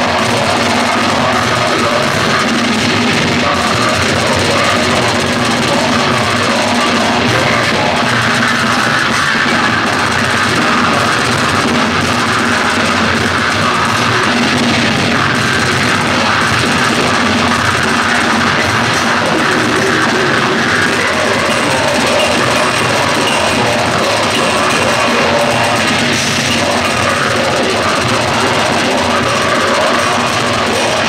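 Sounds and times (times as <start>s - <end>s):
bass guitar: 0.0s - 31.0s
distorted electric guitars: 0.0s - 31.0s
drum kit: 0.0s - 31.0s.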